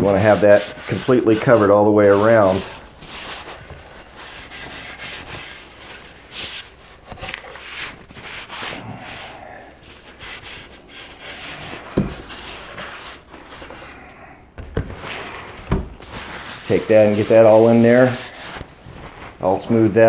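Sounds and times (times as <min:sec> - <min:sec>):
paper towel wiping wood: 0:00.0 - 0:14.0, 0:15.0 - 0:20.0.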